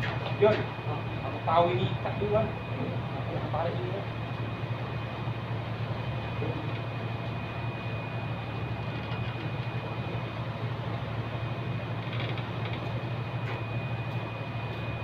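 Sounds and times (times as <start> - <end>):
ship machinery droning: 0.0 - 15.0
thin high whine: 0.0 - 15.0.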